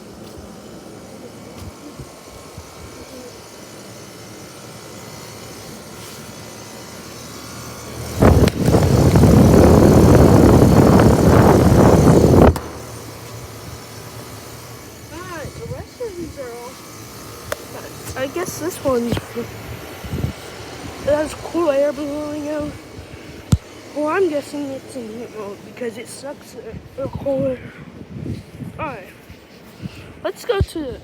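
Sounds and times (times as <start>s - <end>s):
air conditioner unit running: 0.0s - 31.0s
fan air rush on microphone: 0.0s - 31.0s.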